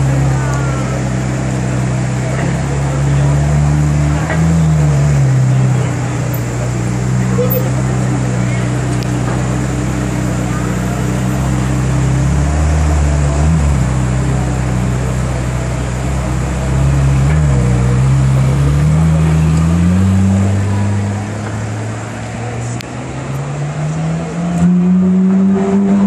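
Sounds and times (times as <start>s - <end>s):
sports car engine idling and revving: 0.0s - 26.0s.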